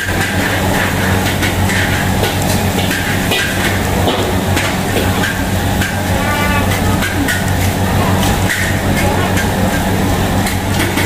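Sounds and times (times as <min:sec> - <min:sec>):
kitchen clicks and clatter: 0:00.0 - 0:11.0
low machine hum: 0:00.0 - 0:11.0.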